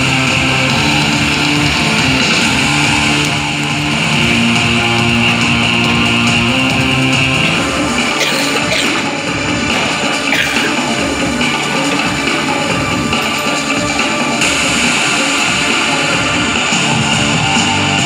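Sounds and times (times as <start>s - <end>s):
loud music with guitar: 0.0s - 18.0s.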